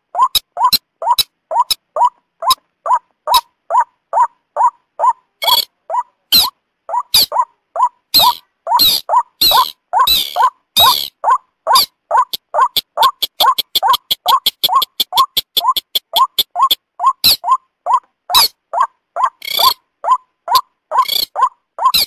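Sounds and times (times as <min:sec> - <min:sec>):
harsh bird calls: 0:00.0 - 0:22.0.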